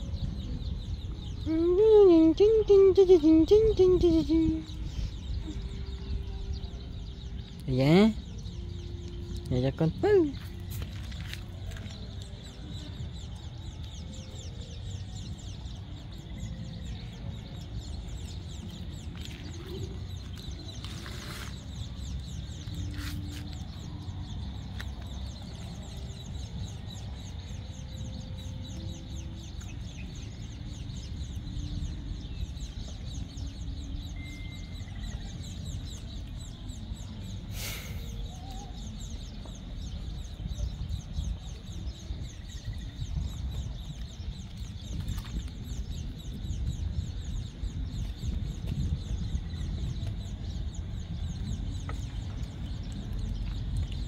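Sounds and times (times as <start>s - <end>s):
small birds chirping: 0.0s - 54.0s
steady low rumble: 0.0s - 54.0s.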